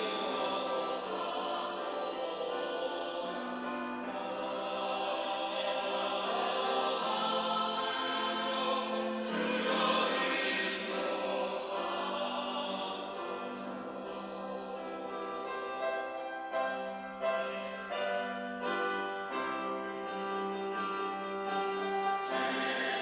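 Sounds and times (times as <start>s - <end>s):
church choir singing: 0.0s - 23.0s.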